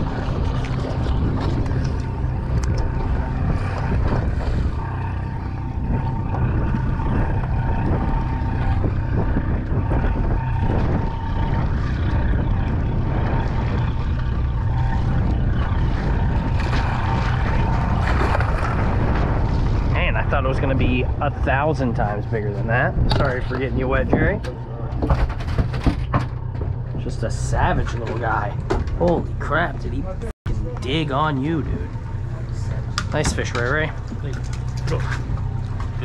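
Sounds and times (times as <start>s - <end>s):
boat engine rumble: 0.0s - 36.0s.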